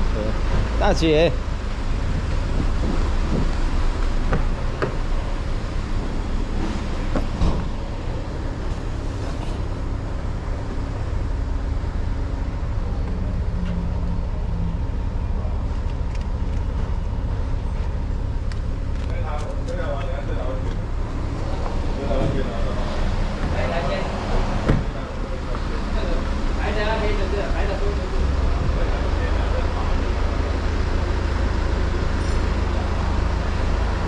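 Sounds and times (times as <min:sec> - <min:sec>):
car engines rumbling: 0:00.0 - 0:34.0.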